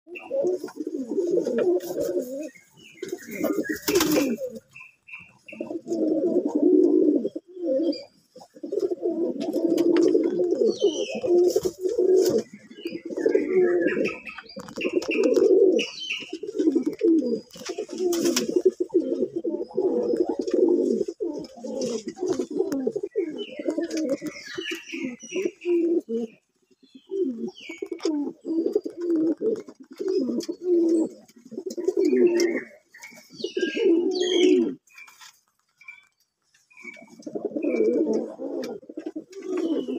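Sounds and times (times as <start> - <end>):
pigeons cooing: 0.1 - 35.1, 36.8 - 39.9.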